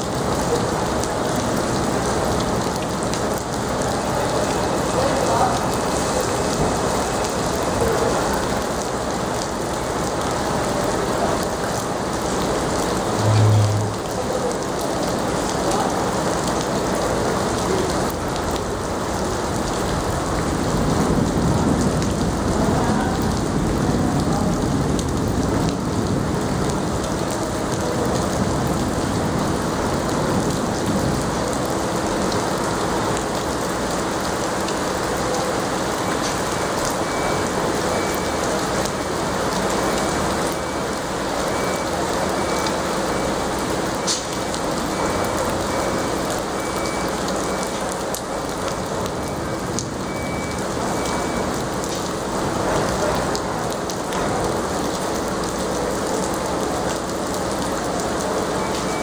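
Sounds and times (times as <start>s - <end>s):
heavy rain on flooded street: 0.0s - 59.0s.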